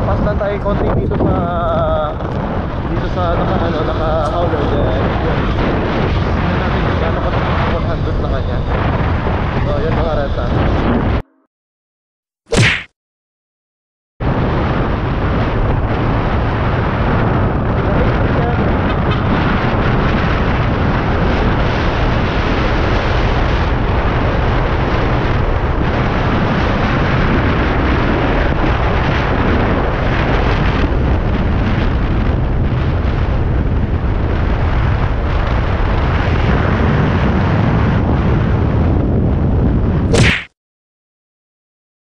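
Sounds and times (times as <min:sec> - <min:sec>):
wind buffeting microphone: 0:00.0 - 0:11.2, 0:14.2 - 0:40.2.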